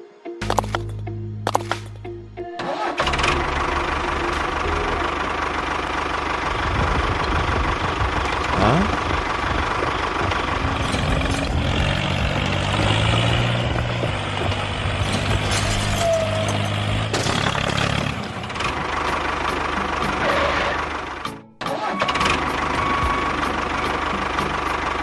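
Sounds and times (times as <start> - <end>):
deep hum: 0.4 - 21.2
miniature vehicle engine running: 2.7 - 25.0.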